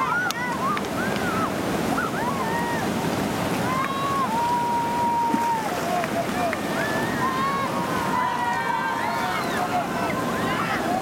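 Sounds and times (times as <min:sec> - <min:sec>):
whitewater river rushing: 0:00.0 - 0:11.0.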